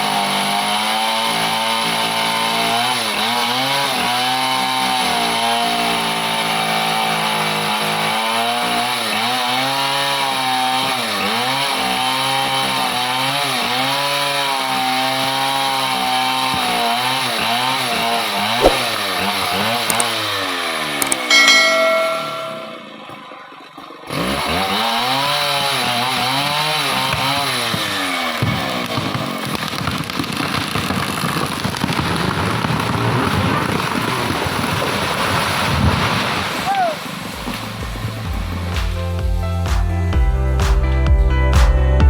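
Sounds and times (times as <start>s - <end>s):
chainsaw cutting wood: 0.0s - 22.1s, 23.8s - 35.8s.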